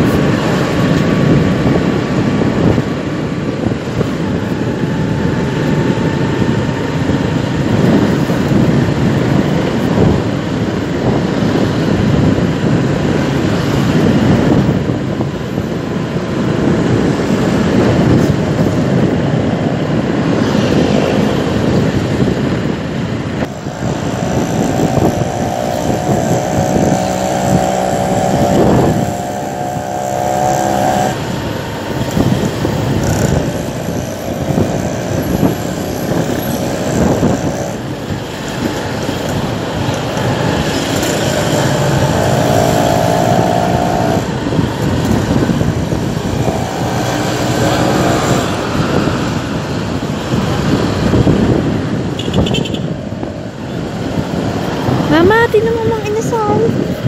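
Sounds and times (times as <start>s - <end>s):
road noise: 0.0s - 57.0s
scooter engine hum: 0.0s - 57.0s
wind buffeting microphone: 0.0s - 57.0s.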